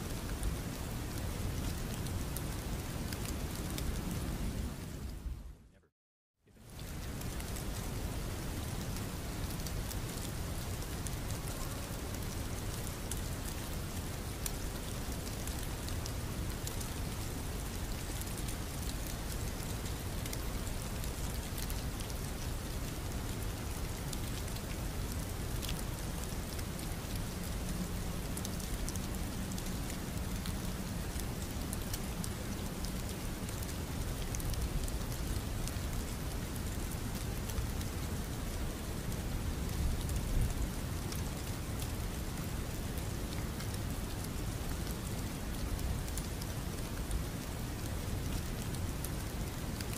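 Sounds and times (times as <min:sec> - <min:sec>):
steady rainfall: 0:00.0 - 0:05.7, 0:06.5 - 0:49.9.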